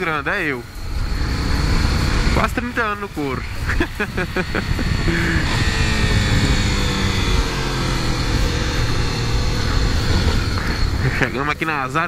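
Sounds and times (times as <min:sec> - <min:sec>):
wind rushing over microphone: 0:00.0 - 0:11.4
motorcycle engine running: 0:00.0 - 0:12.0.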